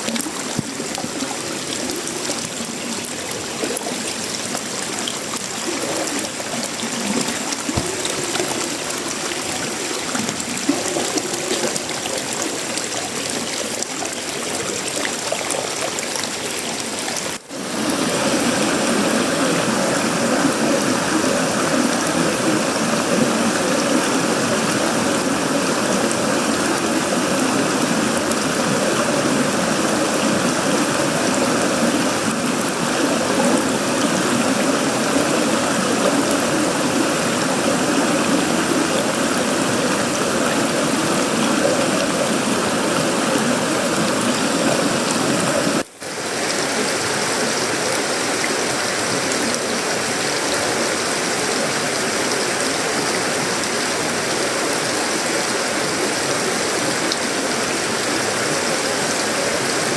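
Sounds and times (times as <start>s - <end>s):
rain on a metal roof: 0.0s - 59.9s
water trickling: 0.0s - 59.9s.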